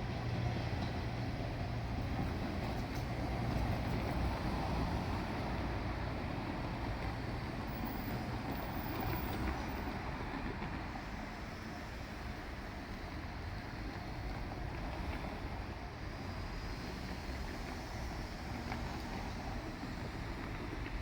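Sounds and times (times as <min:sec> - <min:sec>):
railcar engine and wheel rumble: 0:00.0 - 0:21.0.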